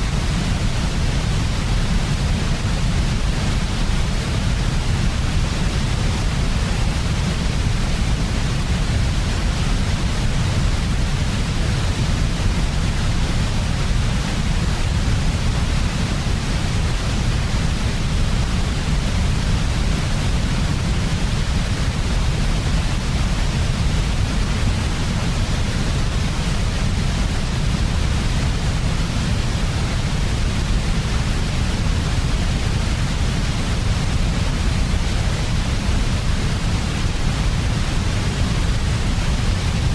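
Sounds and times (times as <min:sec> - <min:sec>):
white noise with deep rumble: 0:00.0 - 0:39.9.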